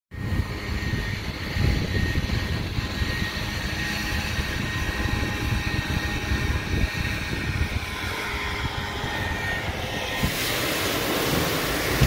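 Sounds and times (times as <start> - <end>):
faint high whine: 0.1 - 12.0
gusty wind buffeting microphone: 0.1 - 12.0.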